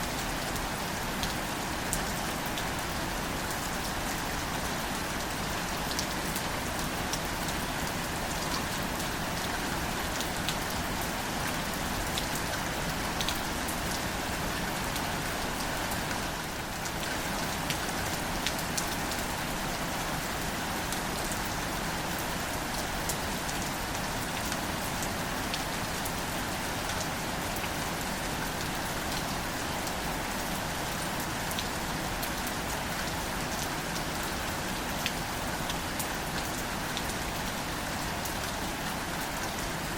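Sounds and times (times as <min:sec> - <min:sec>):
gentle rain on foliage: 0:00.0 - 0:39.9.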